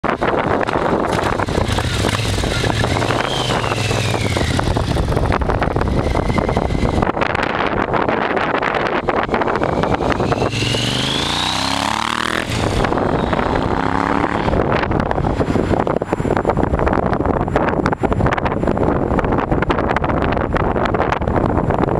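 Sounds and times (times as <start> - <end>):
motorcycle engine accelerating: 0.0 - 18.4
wind buffeting microphone: 0.0 - 21.9.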